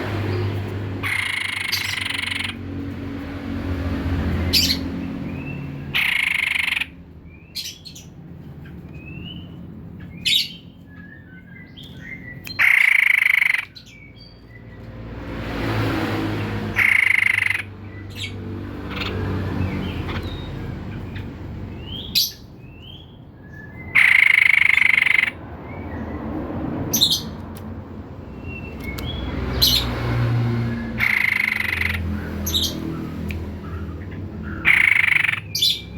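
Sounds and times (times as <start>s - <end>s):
bird harsh calls: 0.0s - 2.6s, 4.2s - 14.6s, 16.3s - 26.2s, 28.4s - 35.9s.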